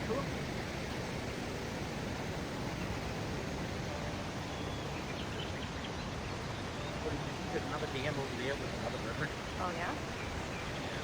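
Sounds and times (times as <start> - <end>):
steady rushing outdoor noise: 0.0 - 11.0.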